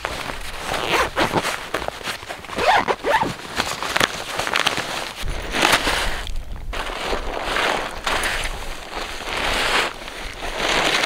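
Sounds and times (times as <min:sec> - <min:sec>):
tent fabric rustling: 0:00.0 - 0:11.0.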